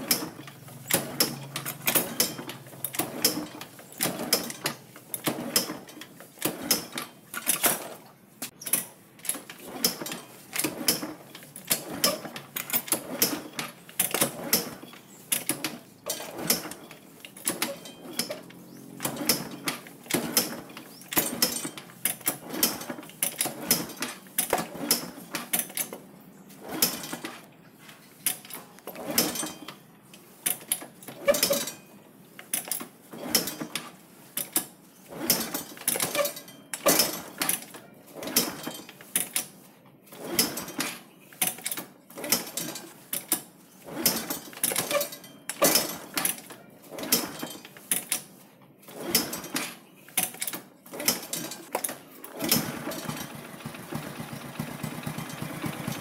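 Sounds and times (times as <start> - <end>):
motorcycle kick-starter clattering: 0.0 - 27.6, 28.2 - 29.8, 30.4 - 31.9, 32.5 - 39.5, 40.2 - 48.3, 48.9 - 56.0.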